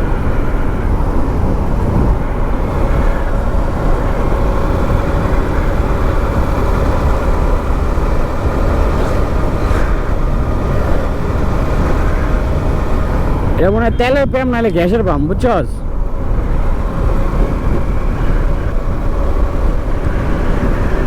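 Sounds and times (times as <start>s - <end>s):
motorcycle engine cruising: 0.0s - 21.0s
wind buffeting microphone: 0.0s - 21.0s.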